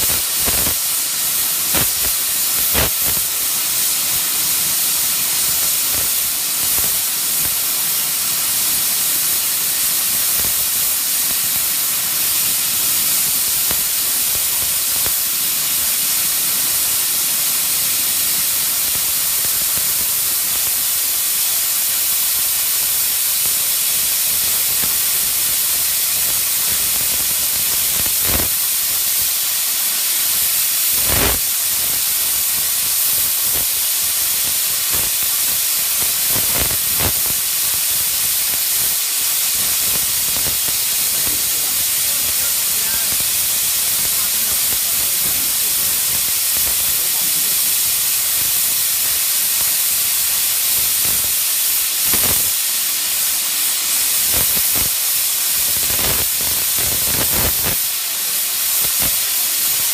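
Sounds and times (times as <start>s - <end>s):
steady loud hiss: 0.0s - 59.9s.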